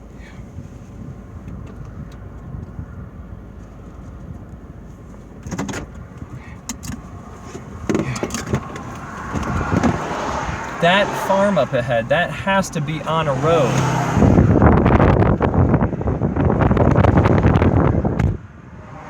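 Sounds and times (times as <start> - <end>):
car interior rumble: 0.0 - 19.0.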